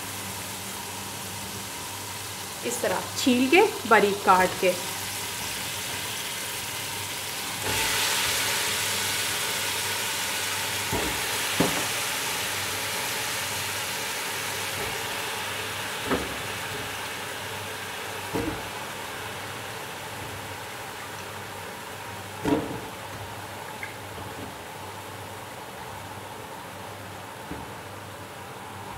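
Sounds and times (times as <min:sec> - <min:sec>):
vegetables sizzling in oil: 0:00.0 - 0:25.4.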